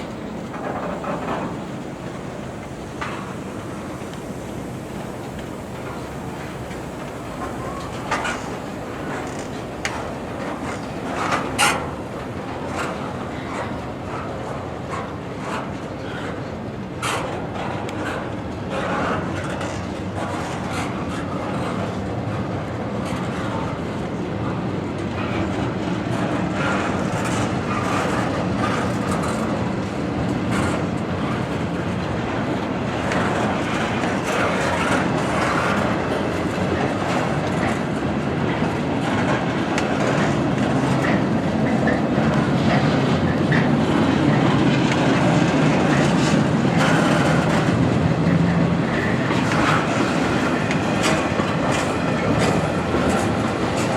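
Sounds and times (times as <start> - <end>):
freight train wheels clacking: 0.0 - 53.9.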